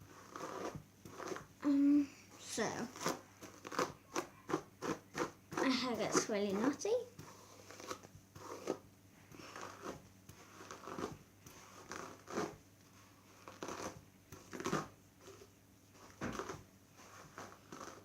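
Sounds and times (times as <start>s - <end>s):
hairbrush scraping through hair: 0.0s - 1.5s, 2.5s - 12.6s, 13.3s - 18.0s.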